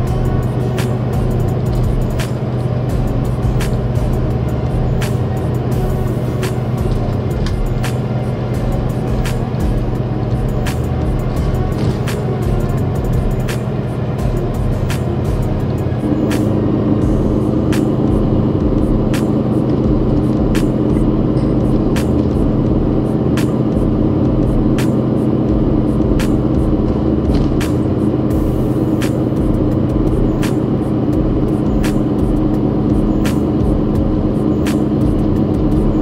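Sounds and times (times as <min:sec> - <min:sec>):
bus engine hum: 0:00.0 - 0:36.0
low road rumble: 0:00.0 - 0:36.0.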